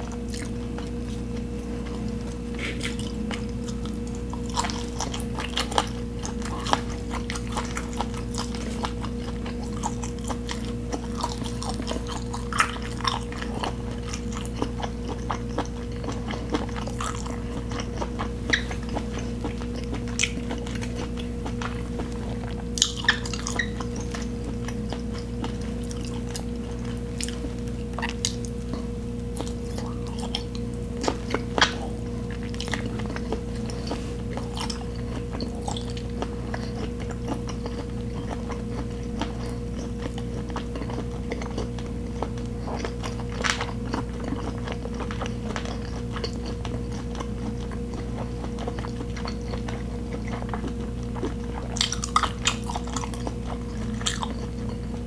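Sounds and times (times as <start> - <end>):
chewing and mouth sounds: 0.0 - 55.0
low electrical hum: 0.0 - 55.0.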